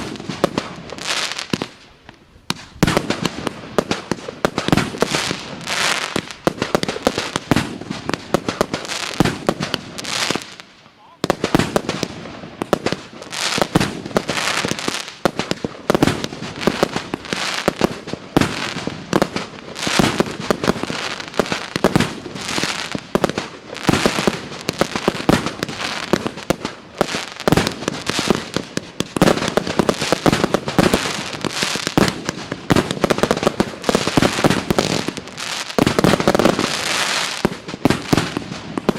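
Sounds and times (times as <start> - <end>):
fireworks launches and bursts: 0.0 - 38.9.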